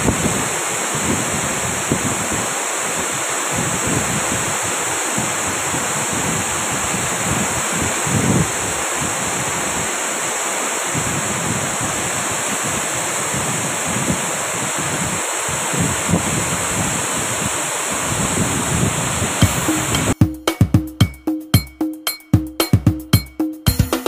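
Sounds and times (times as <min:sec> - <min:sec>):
wind buffeting microphone: 0:00.0 - 0:10.2, 0:10.9 - 0:20.2
waterfall rushing: 0:00.0 - 0:20.2.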